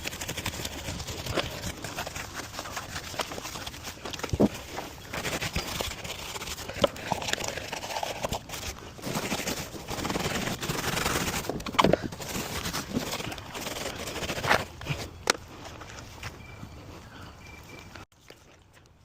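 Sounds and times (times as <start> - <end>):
rough rubbing or scraping: 0.0 - 16.2.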